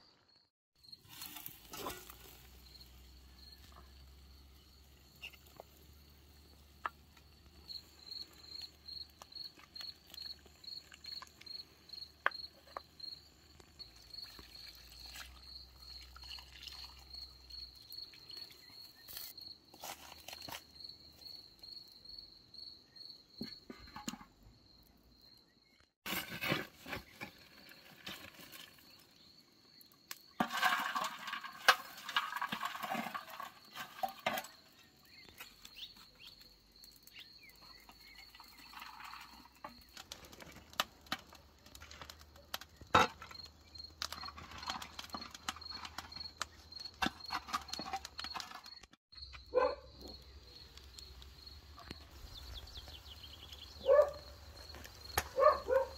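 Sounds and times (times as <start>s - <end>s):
crickets chirping: 0.1s - 25.8s, 27.6s - 55.9s.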